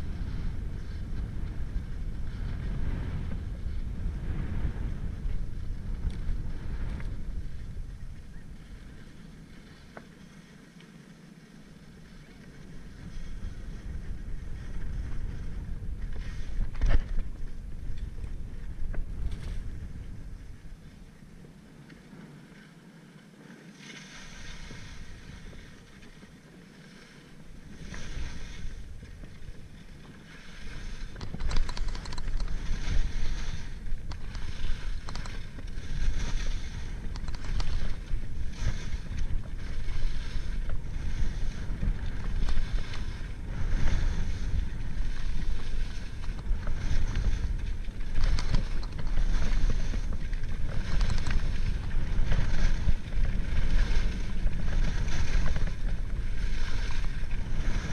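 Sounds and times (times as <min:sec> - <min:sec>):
skis carving over packed snow: 0:00.0 - 0:57.9
wind rumbling on microphone: 0:00.0 - 0:57.9.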